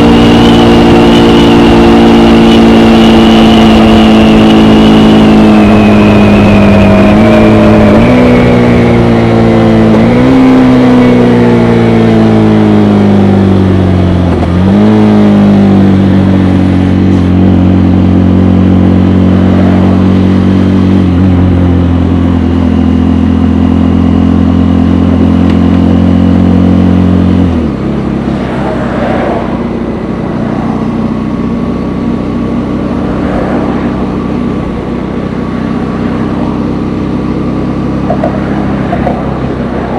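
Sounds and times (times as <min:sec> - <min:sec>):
motorcycle engine downshifting: 0:00.0 - 0:39.9.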